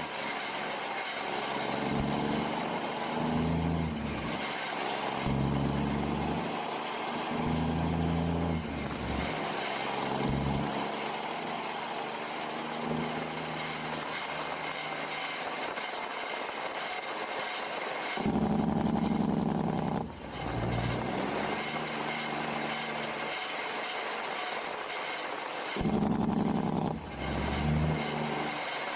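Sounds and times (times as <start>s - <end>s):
diesel truck engine shifting gears: 0.0s - 16.3s, 18.2s - 23.7s, 25.8s - 28.9s.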